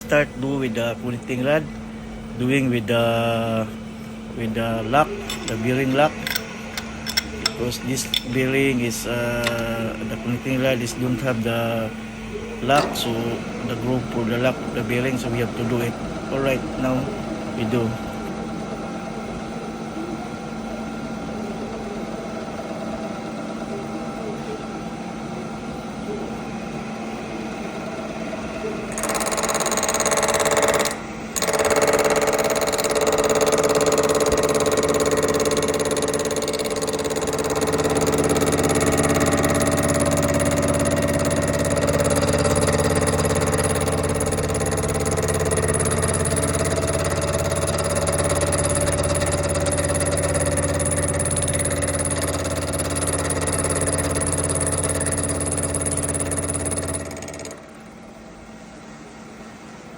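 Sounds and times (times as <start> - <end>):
machine cutting tool running: 0.0 - 19.9, 26.9 - 57.9.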